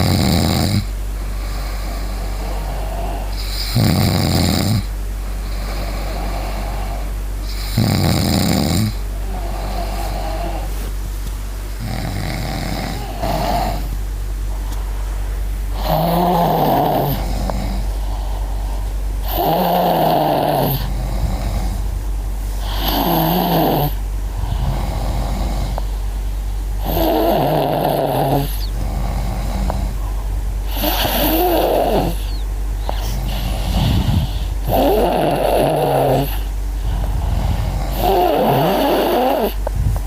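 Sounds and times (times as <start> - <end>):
rasping snores: 0.0 - 10.8, 11.8 - 14.0, 15.7 - 21.9, 22.6 - 25.9, 26.8 - 30.0, 30.6 - 40.0
steady low hum: 0.0 - 40.0.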